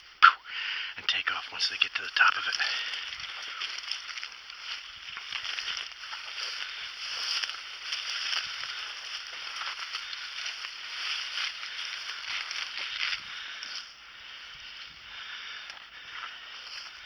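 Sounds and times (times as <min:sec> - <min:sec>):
brush rustling and crackling: 0:01.1 - 0:17.0.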